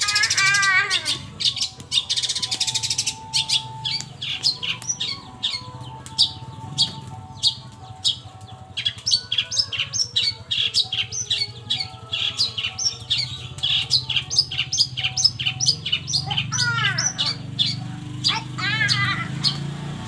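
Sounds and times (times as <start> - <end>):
shrike singing high chirps: 0.0 - 8.2, 8.8 - 19.8.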